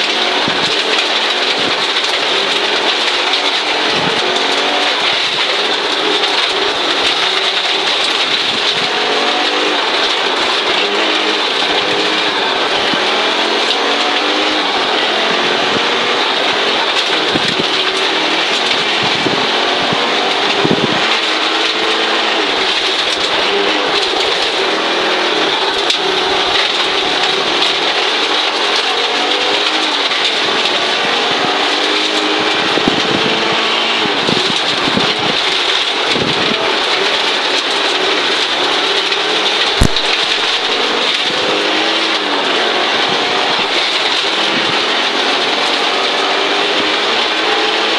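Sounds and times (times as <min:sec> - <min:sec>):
rally car engine revving: 0:00.0 - 0:47.9
tyres on gravel hiss: 0:00.0 - 0:47.9.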